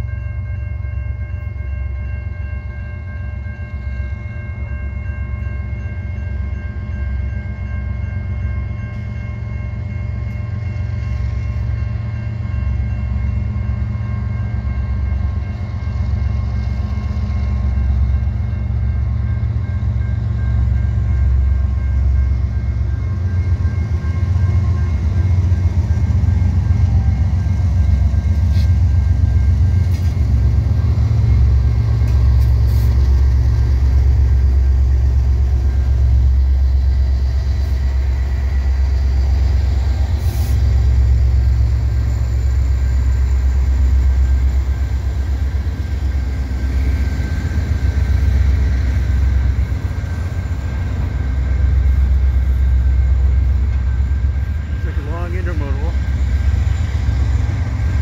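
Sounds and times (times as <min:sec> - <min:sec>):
diesel locomotives deep rumble: 0:00.0 - 0:58.0.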